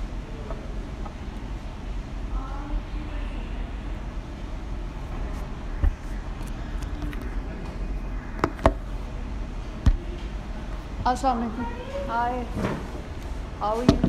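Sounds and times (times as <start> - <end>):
low cafe background hum: 0.0 - 14.0.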